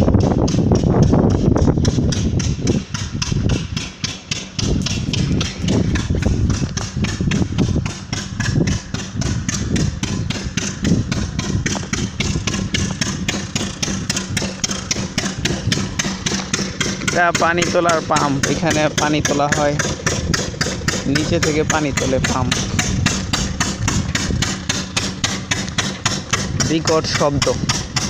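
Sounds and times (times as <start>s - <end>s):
low hum: 0.0s - 28.0s
water pump knocking: 0.0s - 28.0s.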